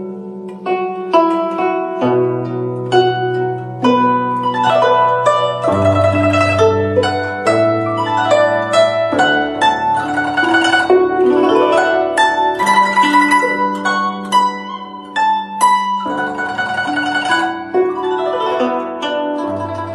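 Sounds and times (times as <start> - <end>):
plucked zither-like melody: 0.0 - 19.9.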